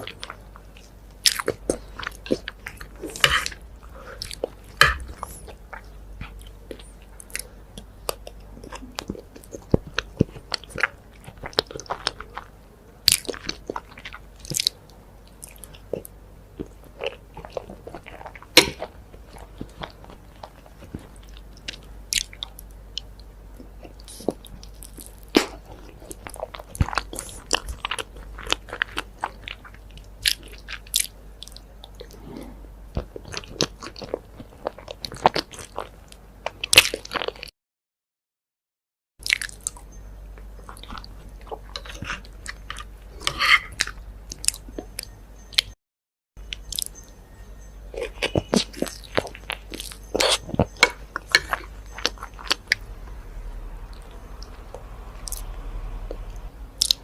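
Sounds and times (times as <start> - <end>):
chewing with crunchy mouth clicks: 0.0 - 37.5, 39.2 - 45.8, 46.4 - 47.1, 47.9 - 57.0.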